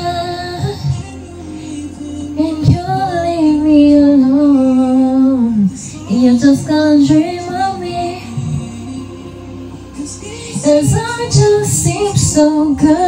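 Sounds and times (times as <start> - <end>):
backing track music: 0.0 - 13.0
woman singing: 0.0 - 13.0.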